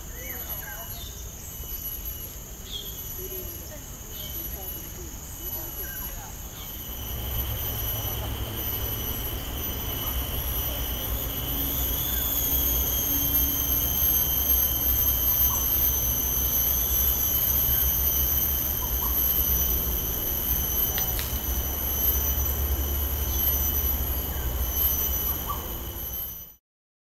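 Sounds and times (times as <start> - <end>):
insect high-pitched whine: 0.0 - 26.6.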